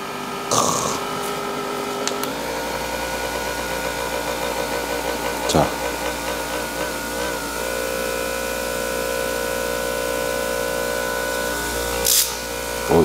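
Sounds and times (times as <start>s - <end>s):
polisher motor whine: 0.0s - 13.0s.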